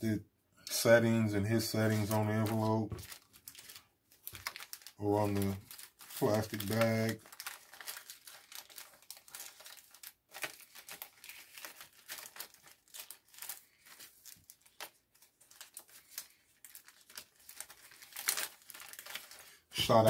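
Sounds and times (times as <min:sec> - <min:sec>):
plastic bag crinkling: 0:01.7 - 0:20.0.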